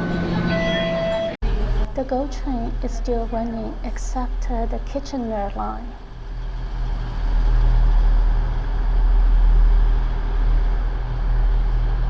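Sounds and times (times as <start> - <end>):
machine hum and rumble: 0.0 - 12.0.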